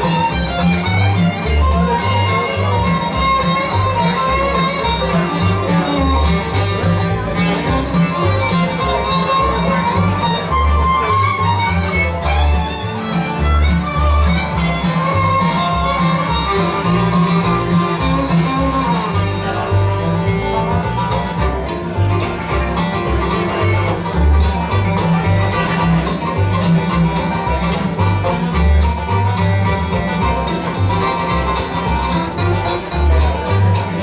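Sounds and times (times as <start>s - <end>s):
acoustic guitar picking: 0.0s - 34.0s
banjo rolls: 0.0s - 34.0s
fiddle: 0.0s - 34.0s
upright bass line: 0.0s - 34.0s.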